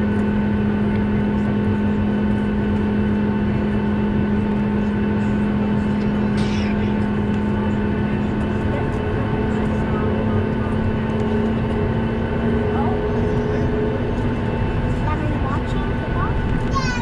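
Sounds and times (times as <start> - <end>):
airliner cabin jet engine drone: 0.0 - 17.0.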